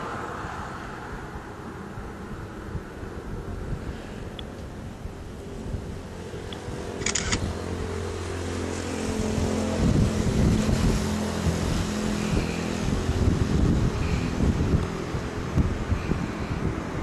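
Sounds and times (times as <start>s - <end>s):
steady low hum: 0.0s - 17.0s
wind buffeting microphone: 0.0s - 17.0s.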